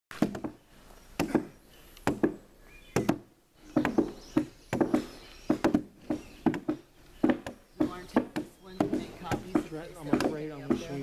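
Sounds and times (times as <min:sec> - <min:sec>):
gouges chopping wood: 0:00.1 - 0:00.6, 0:01.2 - 0:11.0.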